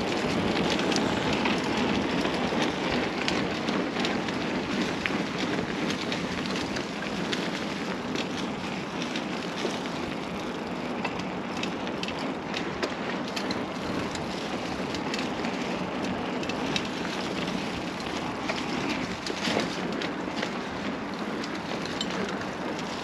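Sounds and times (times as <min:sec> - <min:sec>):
bike tyres rolling over rough path: 0:00.0 - 0:23.0.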